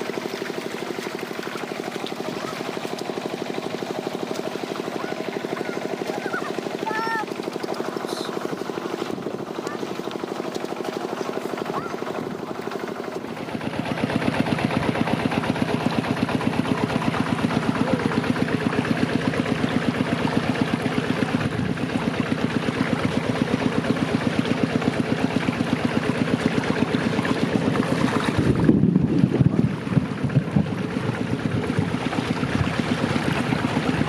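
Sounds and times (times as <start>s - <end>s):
small engine chugging: 0.0s - 34.0s.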